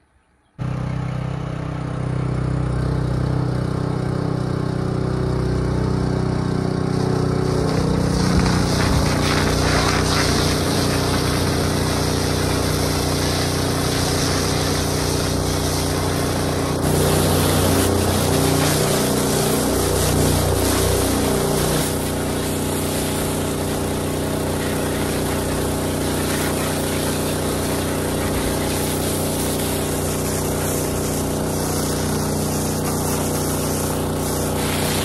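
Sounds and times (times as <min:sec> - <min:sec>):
pressure washer engine running: 0:00.6 - 0:35.0
water jet hissing: 0:06.8 - 0:35.0.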